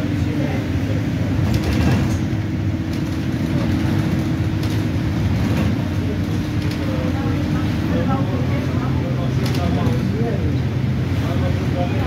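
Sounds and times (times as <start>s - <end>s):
bus engine rumbling: 0.0s - 12.0s
light rattles in bus: 0.0s - 12.0s.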